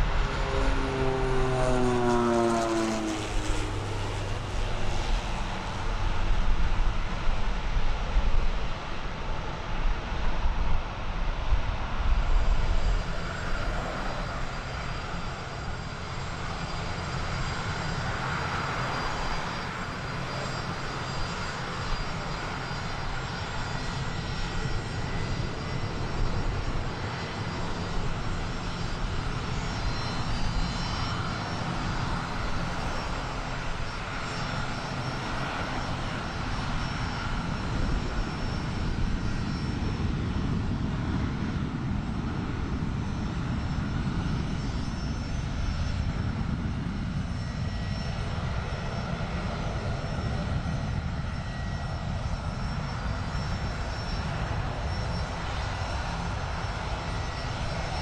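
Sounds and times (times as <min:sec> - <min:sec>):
jet airliner rumble and whine: 0:00.0 - 0:58.0.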